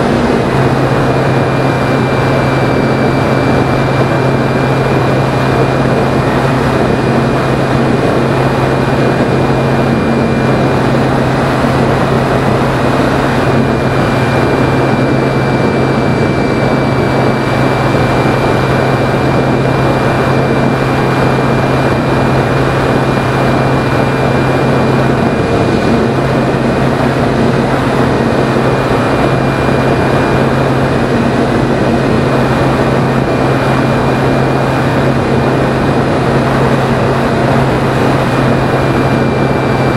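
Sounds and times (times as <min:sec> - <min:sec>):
electric motor and propeller drone: 0:00.0 - 0:39.9
wind rushing: 0:00.0 - 0:39.9.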